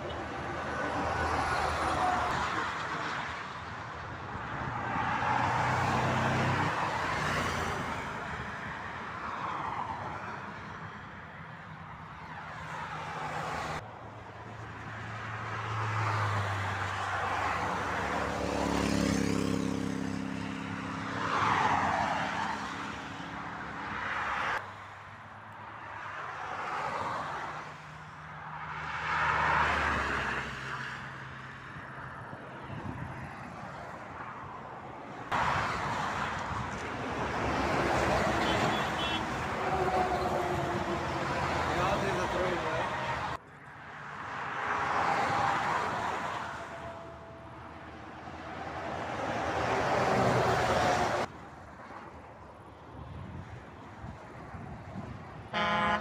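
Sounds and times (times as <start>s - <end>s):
vehicles passing on motorway: 0.0s - 56.0s.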